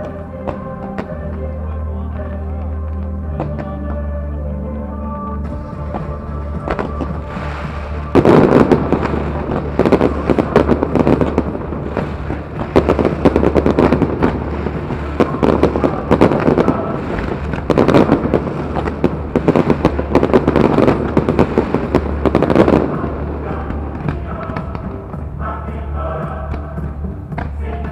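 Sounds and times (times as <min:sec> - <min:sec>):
fireworks bangs and crackles: 0:00.0 - 0:01.5, 0:02.1 - 0:04.1, 0:05.5 - 0:25.5, 0:26.2 - 0:27.9.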